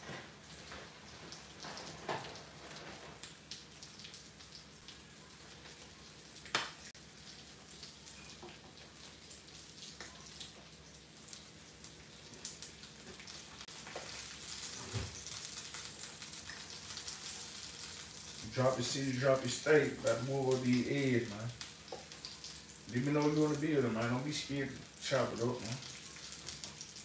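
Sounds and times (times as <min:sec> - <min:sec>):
meat sizzling on a griddle: 0:00.0 - 0:27.0.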